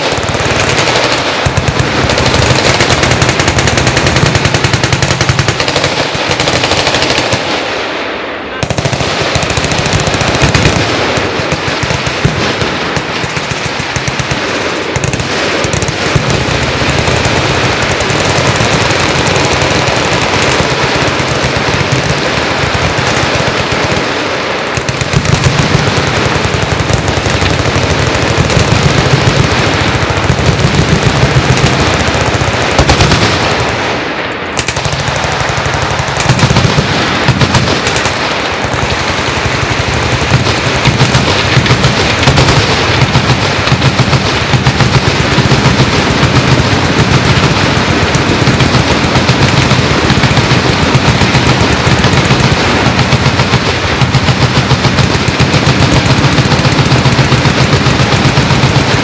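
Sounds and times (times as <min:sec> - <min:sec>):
machine guns firing: 0:00.0 - 0:59.0.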